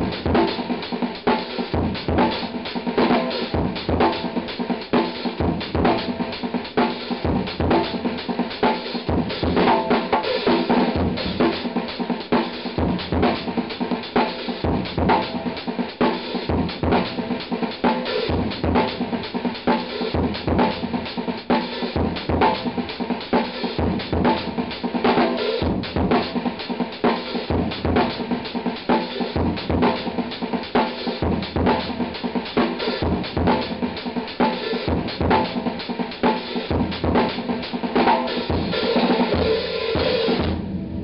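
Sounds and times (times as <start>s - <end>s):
drum kit groove: 0.0s - 41.0s.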